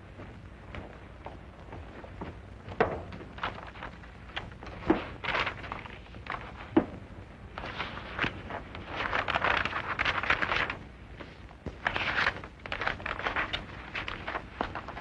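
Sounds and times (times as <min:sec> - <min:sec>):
paper rustling: 0:02.8 - 0:15.0.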